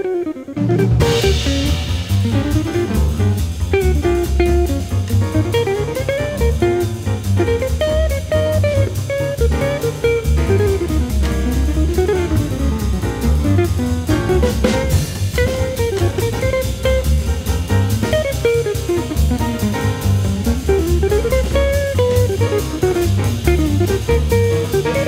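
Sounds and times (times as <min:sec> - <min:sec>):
background music with beat: 0:00.5 - 0:25.0.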